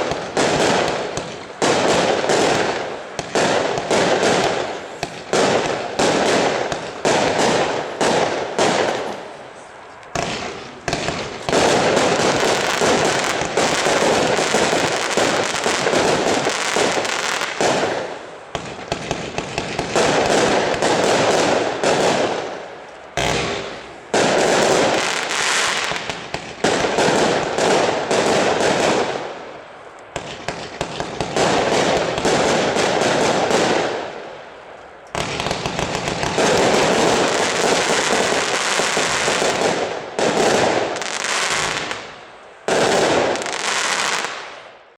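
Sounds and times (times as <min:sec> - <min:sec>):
fireworks cake firing rapid shots: 0:00.0 - 0:09.2, 0:10.2 - 0:22.6, 0:23.2 - 0:29.4, 0:30.2 - 0:34.2, 0:35.2 - 0:44.6.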